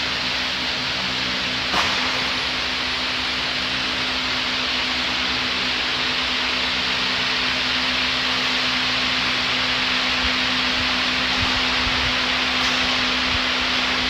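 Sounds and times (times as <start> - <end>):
fan air rushing: 0.0 - 14.0.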